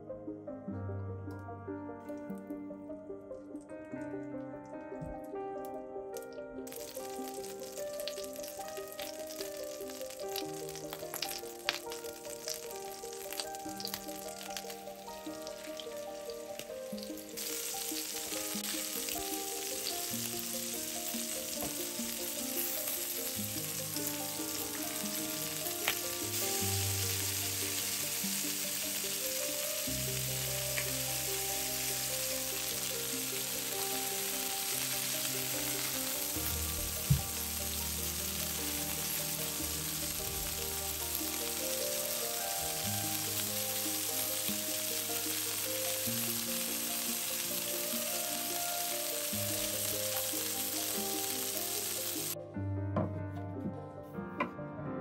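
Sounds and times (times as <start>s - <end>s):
soft background music: 0.0s - 55.0s
meat sizzling in a frying pan: 6.6s - 52.4s.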